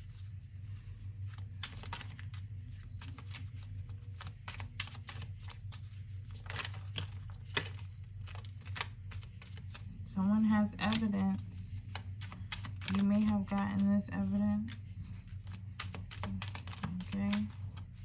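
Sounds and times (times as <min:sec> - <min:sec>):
cards being shuffled: 0:00.0 - 0:10.0, 0:10.7 - 0:18.0
low steady hum: 0:00.0 - 0:18.0.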